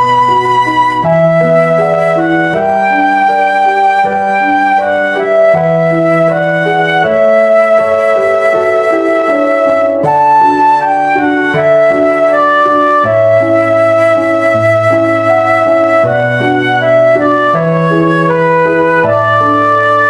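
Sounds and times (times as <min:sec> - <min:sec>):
flute-like melody: 0:00.0 - 0:20.0.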